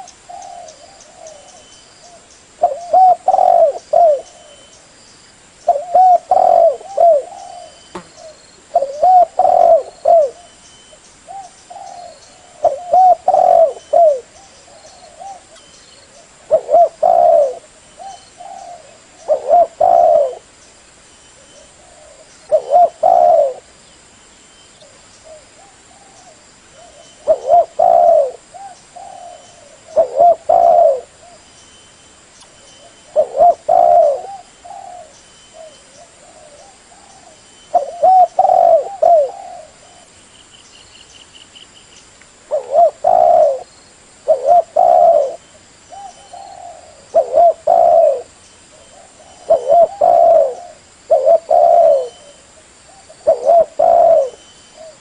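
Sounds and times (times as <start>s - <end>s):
dove cooing: 0.0s - 4.7s, 5.7s - 10.6s, 11.3s - 20.5s, 21.4s - 23.7s, 24.8s - 31.4s, 32.8s - 40.1s, 42.5s - 55.0s.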